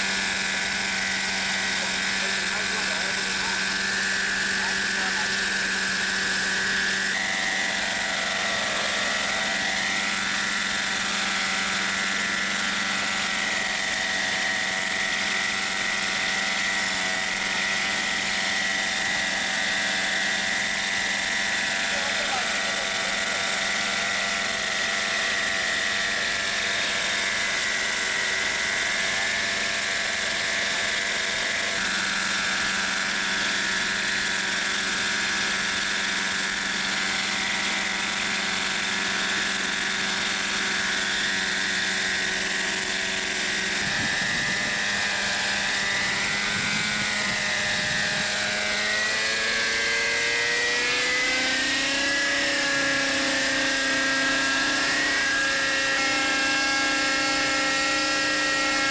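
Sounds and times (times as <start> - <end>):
model helicopter engine and rotor: 0.0 - 58.9.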